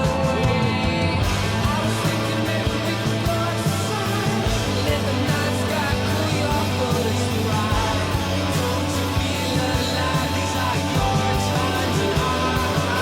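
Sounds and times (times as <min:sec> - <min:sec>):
rock music with vocals: 0:00.0 - 0:13.0.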